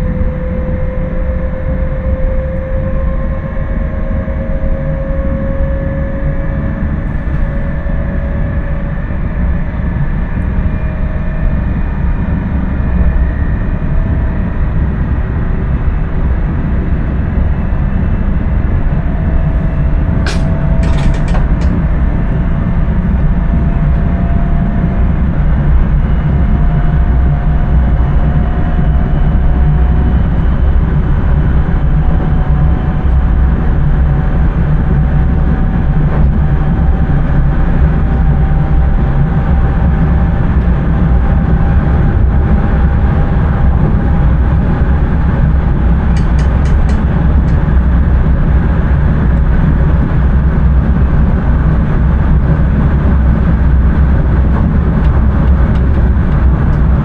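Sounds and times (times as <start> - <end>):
train wheels rumbling on rails: 0.0 - 13.1, 13.7 - 57.0.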